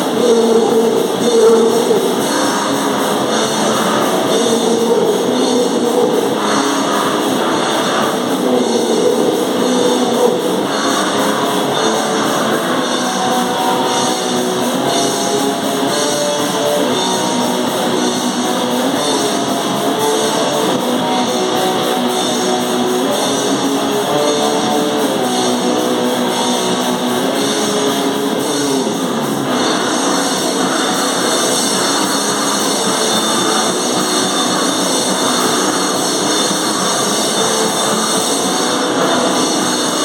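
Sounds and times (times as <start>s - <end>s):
distorted electric guitar riff: 0.0s - 40.0s
drums: 0.0s - 40.0s.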